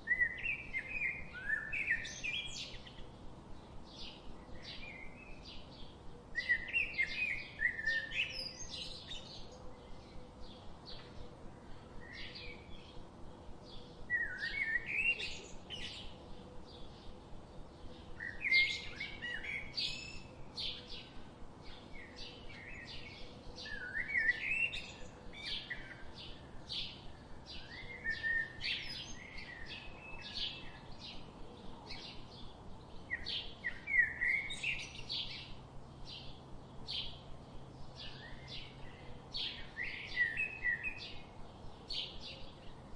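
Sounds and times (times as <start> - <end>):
songbirds chirping and singing: 0.0 - 42.9.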